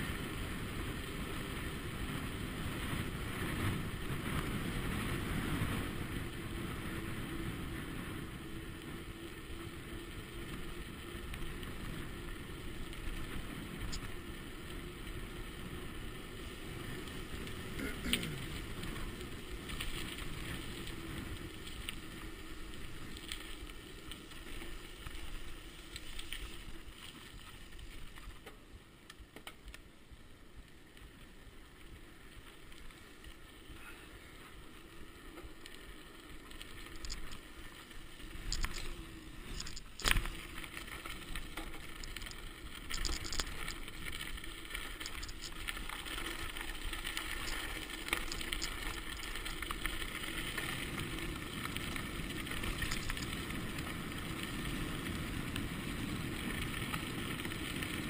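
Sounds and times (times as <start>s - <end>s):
bike clicks and rattles: 0.0s - 33.8s, 34.4s - 58.0s
bike tyre and riding noise: 0.0s - 58.0s.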